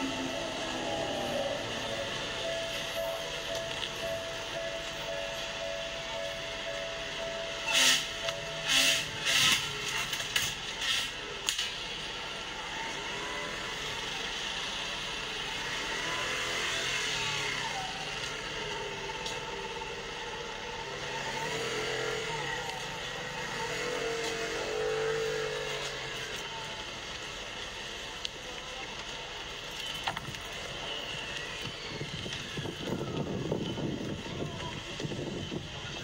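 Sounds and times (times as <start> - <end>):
street traffic noise: 0.0 - 36.0.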